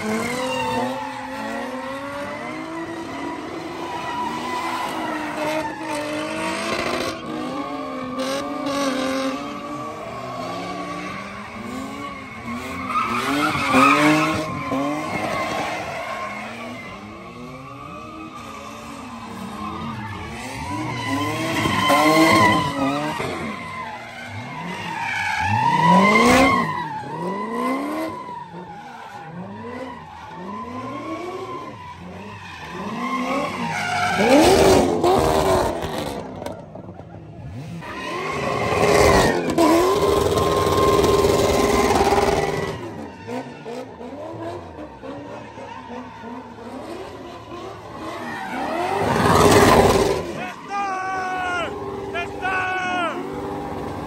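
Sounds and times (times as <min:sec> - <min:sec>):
car engines revving: 0:00.0 - 0:54.0
tires screeching: 0:00.0 - 0:54.0.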